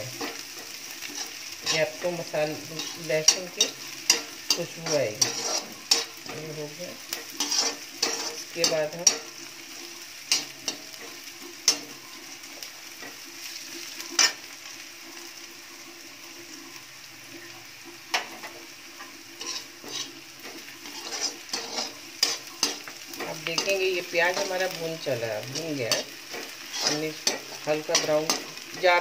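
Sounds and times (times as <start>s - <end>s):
steel spoon scraping and knocking pan: 0.0s - 13.2s, 18.1s - 29.0s
onion and garlic sizzling in oil: 0.0s - 29.0s.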